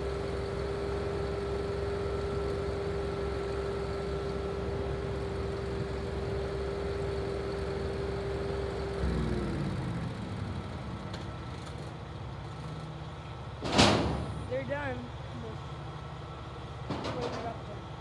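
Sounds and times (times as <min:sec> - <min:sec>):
truck engine idling: 0:00.1 - 0:18.0.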